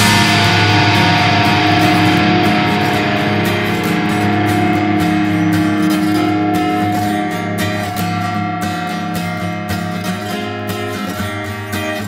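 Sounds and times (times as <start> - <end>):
rock band guitars strumming chords: 0.0 - 12.0.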